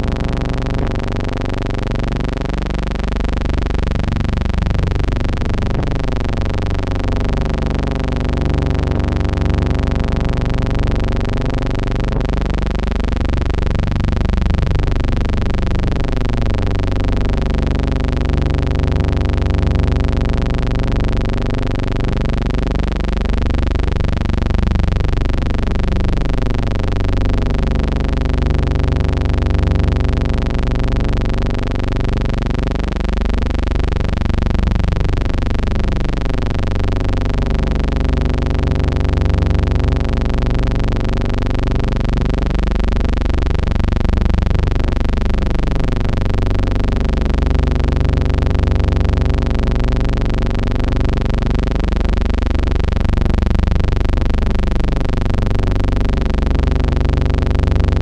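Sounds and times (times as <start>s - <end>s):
droning hum with phasing swirl: 0.0s - 58.0s.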